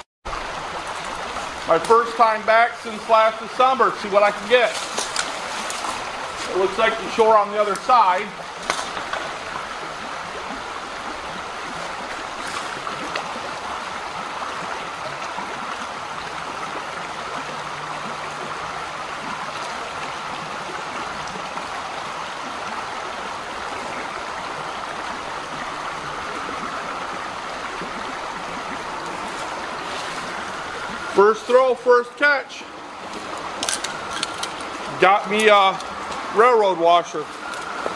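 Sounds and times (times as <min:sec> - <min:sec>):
creek running over rocks: 0:00.0 - 0:37.9.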